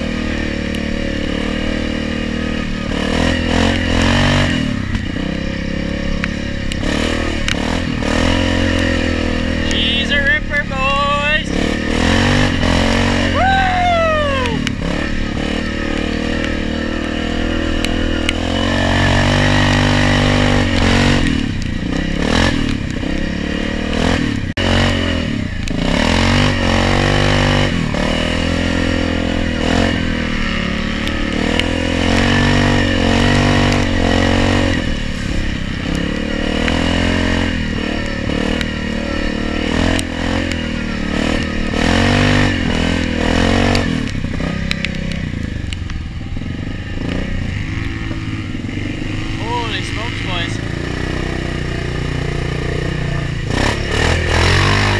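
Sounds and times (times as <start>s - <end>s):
atv engine revving: 0.0s - 54.9s.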